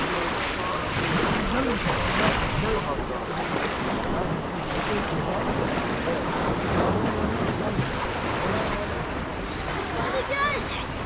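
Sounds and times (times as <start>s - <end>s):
surf washing onto shore: 0.0s - 11.0s.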